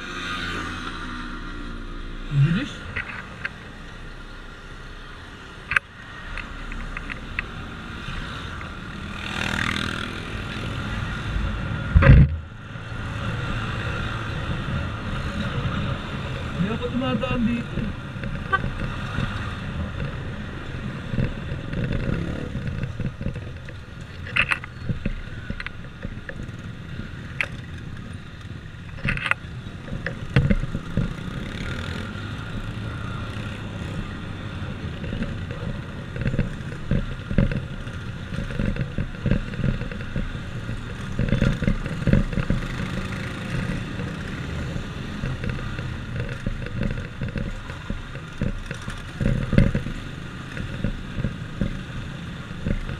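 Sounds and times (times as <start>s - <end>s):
road noise: 0.0s - 52.9s.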